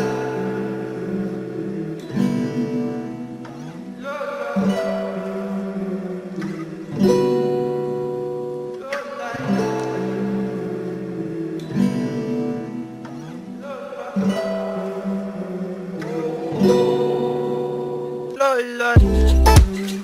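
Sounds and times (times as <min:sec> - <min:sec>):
strummed guitar chords: 0:00.0 - 0:20.0.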